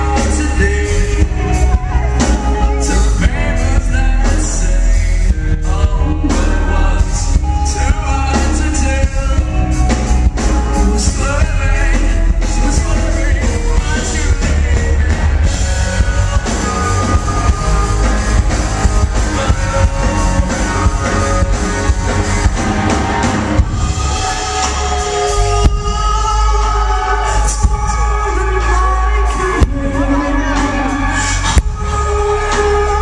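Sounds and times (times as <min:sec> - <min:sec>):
man singing: 0:00.0 - 0:33.0
rock band playing live: 0:00.0 - 0:33.0.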